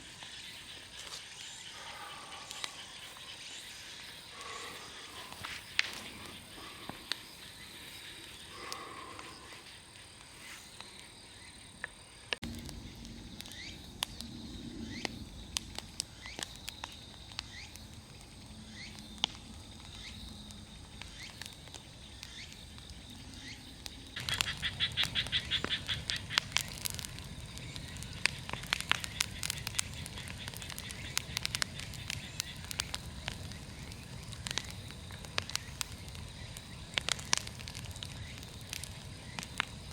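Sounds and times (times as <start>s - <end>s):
bonfire crackling with pops: 0.0s - 39.9s
high insect drone: 0.0s - 39.9s.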